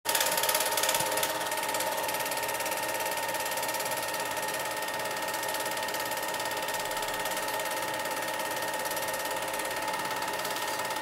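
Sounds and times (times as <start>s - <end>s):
film projector clattering: 0.1s - 11.0s.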